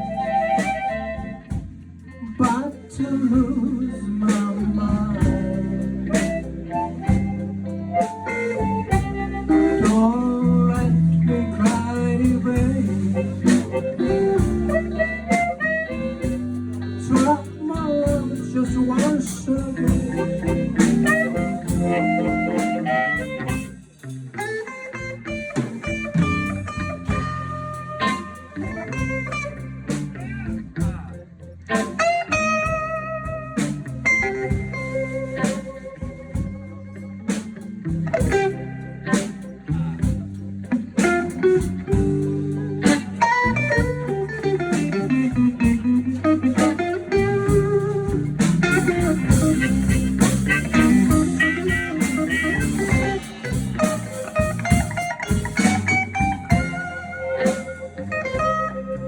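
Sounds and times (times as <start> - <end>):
blues guitar playing: 0.0 - 59.0.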